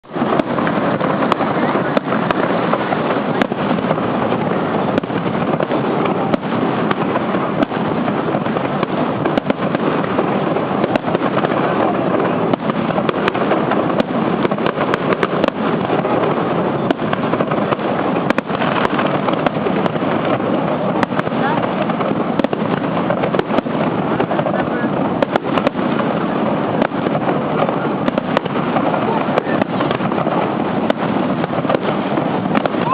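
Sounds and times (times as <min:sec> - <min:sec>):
dense steady fireworks noise: 0:00.0 - 0:32.9
fireworks bangs and pops: 0:00.0 - 0:32.9.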